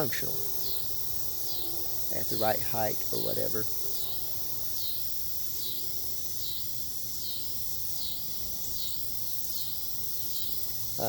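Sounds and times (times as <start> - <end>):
insects calling: 0.0 - 11.0.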